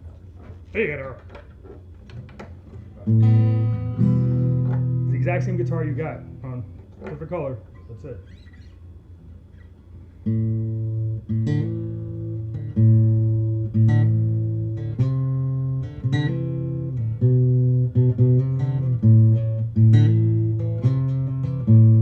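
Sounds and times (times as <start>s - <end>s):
acoustic guitar picking: 0.0s - 22.0s.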